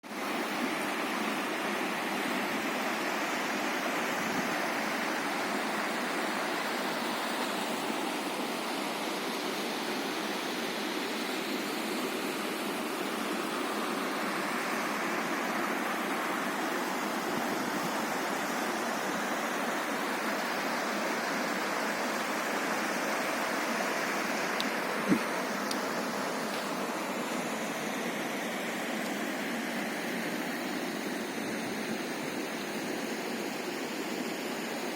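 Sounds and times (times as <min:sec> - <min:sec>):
floodwater rushing: 0:00.2 - 0:34.9.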